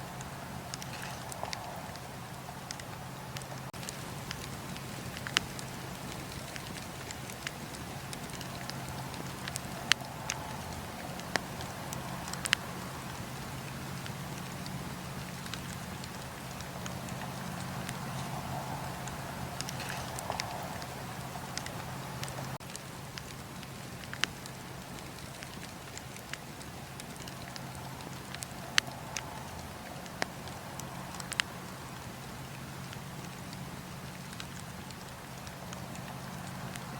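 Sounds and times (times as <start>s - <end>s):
campfire hissing and rumbling: 0.0s - 36.9s
wood crackling and popping: 0.0s - 36.9s.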